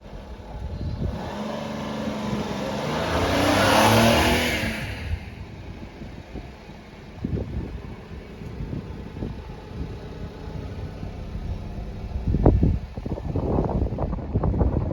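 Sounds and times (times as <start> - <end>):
vehicle engine passing: 0.0 - 14.9.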